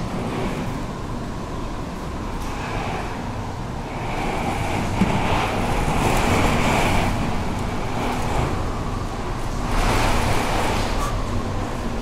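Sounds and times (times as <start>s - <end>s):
storm wind rushing: 0.0s - 12.0s.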